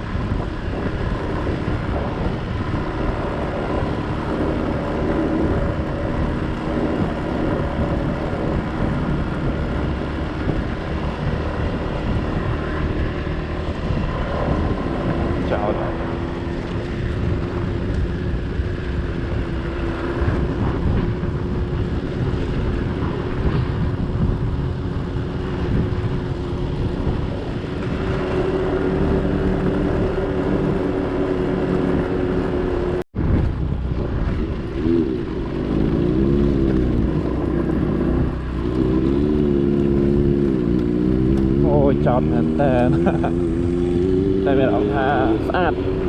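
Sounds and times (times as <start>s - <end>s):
vehicle engine running and revving: 0.0s - 46.0s.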